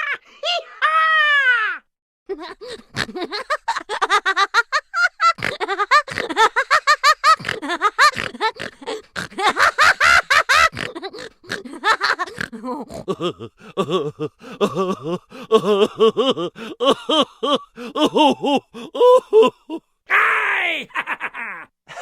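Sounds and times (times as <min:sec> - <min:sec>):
person laughing: 0:02.3 - 0:22.0.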